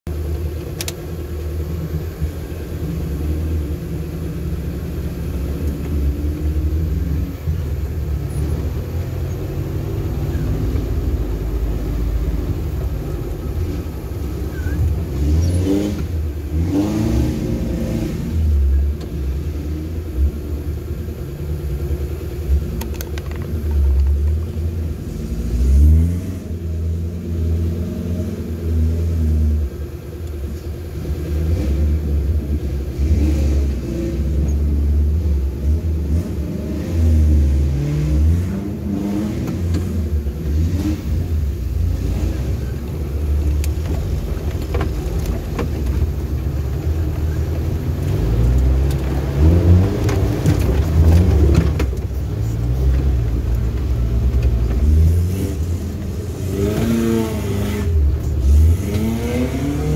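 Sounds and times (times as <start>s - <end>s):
off-road engine rumbling: 0.0s - 59.9s.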